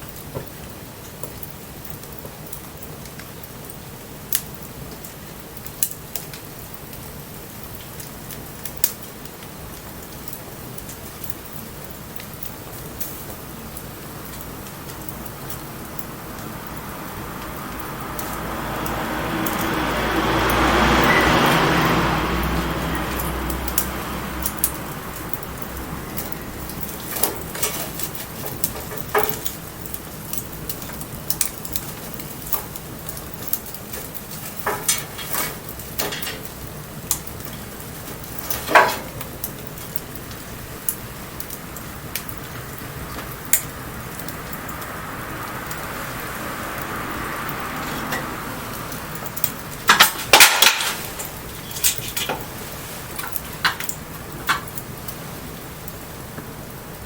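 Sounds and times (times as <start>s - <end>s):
bonfire crackling and popping: 0.0s - 57.0s
steady fire hiss: 0.0s - 57.0s.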